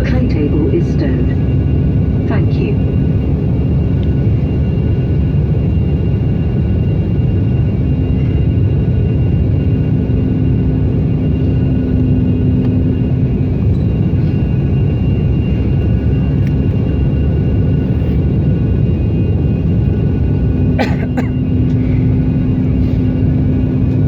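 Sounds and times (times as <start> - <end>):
jet airliner rumble: 0.0 - 24.0.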